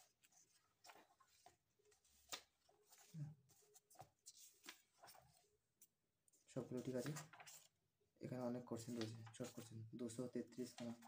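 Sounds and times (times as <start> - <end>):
book pages turning: 0.0 - 7.8, 8.6 - 11.0.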